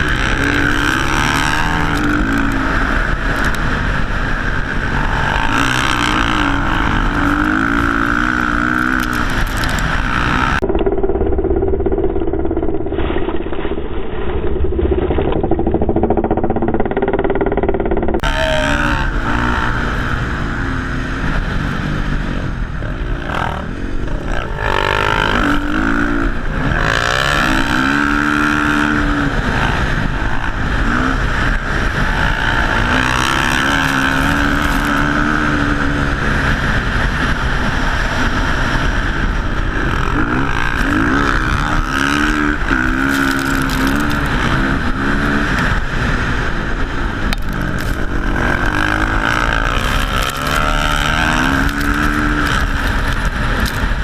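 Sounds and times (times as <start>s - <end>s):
motocross bike engines revving: 0.0s - 11.3s, 15.7s - 54.0s
wind rumble on microphone: 0.0s - 54.0s.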